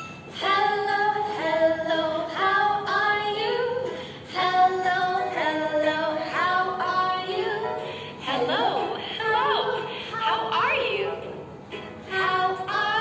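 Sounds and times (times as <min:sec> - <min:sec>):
woman singing: 0:00.4 - 0:11.2, 0:12.1 - 0:13.0.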